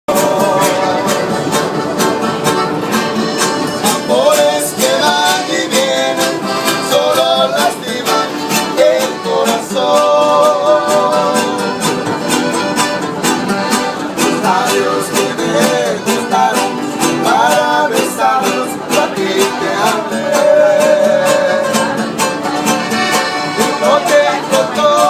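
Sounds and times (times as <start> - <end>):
acoustic guitar strumming: 0.1 - 25.0.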